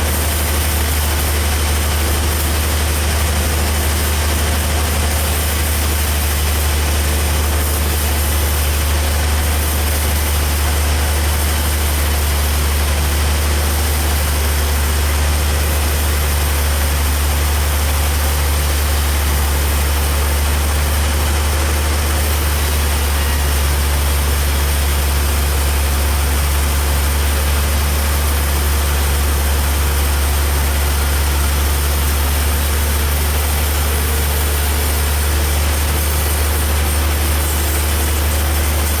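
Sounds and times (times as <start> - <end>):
sawmill machinery humming: 0.0 - 39.0.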